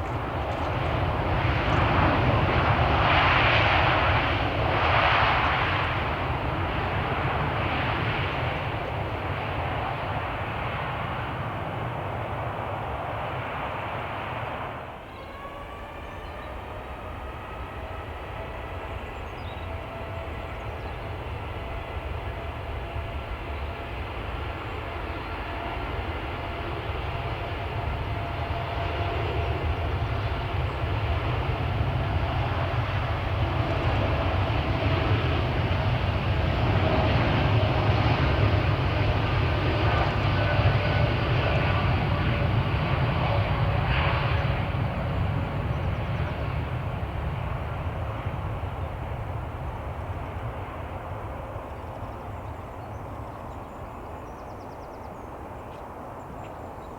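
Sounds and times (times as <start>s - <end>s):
jet engines whining and rumbling: 0.0s - 56.9s.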